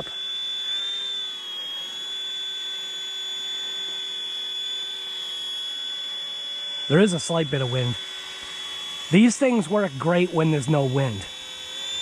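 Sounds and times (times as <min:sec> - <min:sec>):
rc helicopter rotor whine: 0:00.0 - 0:12.0.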